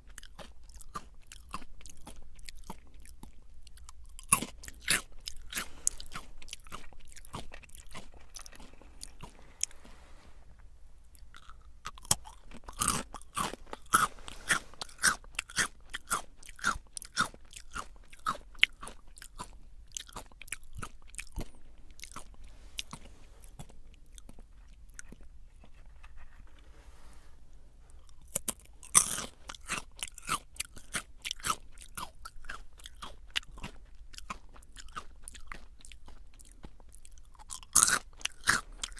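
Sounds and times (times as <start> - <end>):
crunchy snack chewing: 0.0 - 26.7, 27.9 - 38.9.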